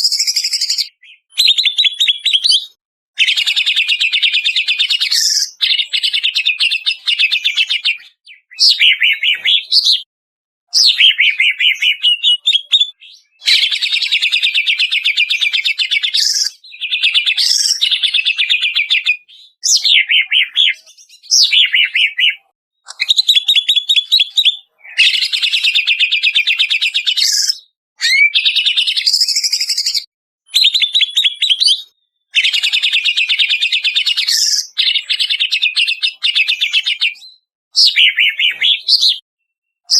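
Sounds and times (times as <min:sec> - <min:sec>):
bird singing trilled phrases: 0:00.0 - 0:10.1, 0:10.7 - 0:39.9.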